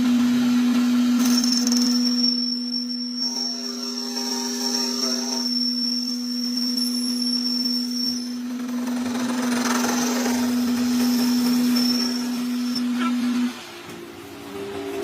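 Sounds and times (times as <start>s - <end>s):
faint high whine: 0.0s - 15.0s
power tool motor humming: 1.1s - 13.6s.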